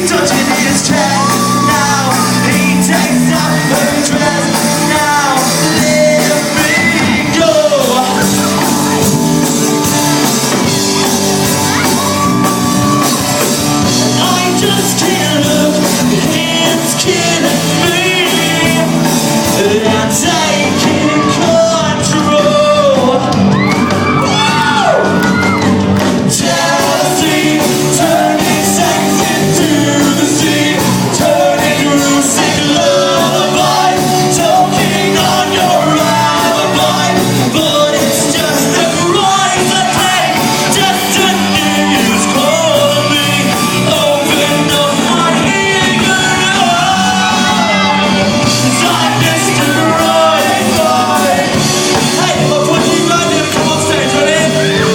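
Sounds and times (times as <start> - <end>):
crowd shouts and whoops: 0.0 - 15.9, 20.1 - 37.6, 38.5 - 52.8
lead singer singing: 0.0 - 54.9
live rock band playing: 0.0 - 54.9.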